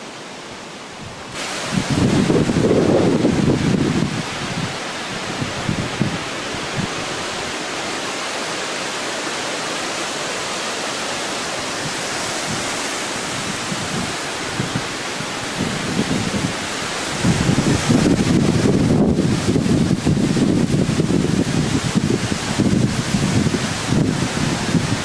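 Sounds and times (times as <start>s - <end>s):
rushing flood water: 0.0s - 25.0s
rushing wind: 0.9s - 25.0s
wind buffeting microphone: 1.0s - 7.8s, 11.7s - 25.0s.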